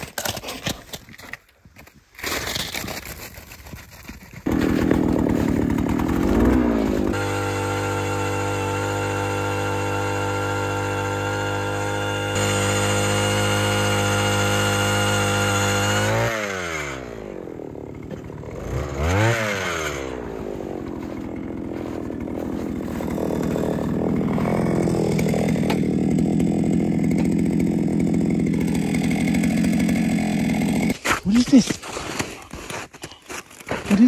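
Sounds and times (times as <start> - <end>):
power ice auger drilling: 0.0 - 34.0.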